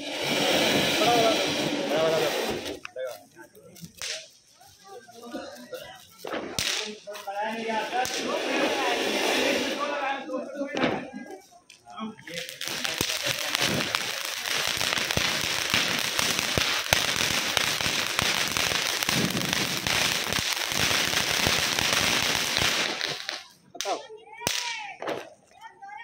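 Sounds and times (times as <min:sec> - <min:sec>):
firework spraying sparks with hiss: 0:00.0 - 0:25.4
voices: 0:00.0 - 0:26.0.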